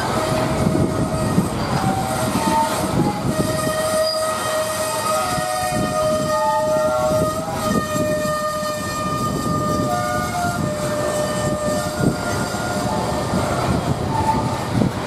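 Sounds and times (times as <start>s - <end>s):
train wheels clattering over rail joints: 0.0s - 15.0s
wheel flanges squealing: 0.0s - 15.0s.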